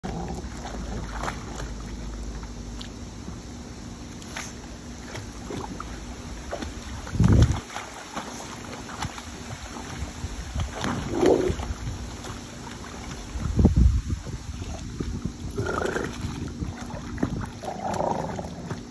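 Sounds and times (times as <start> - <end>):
water splashing: 0.0 - 3.0, 4.2 - 18.9.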